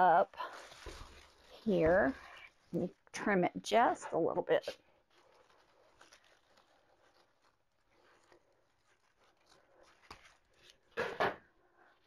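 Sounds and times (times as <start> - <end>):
ribbons rustling: 0.0 - 12.0.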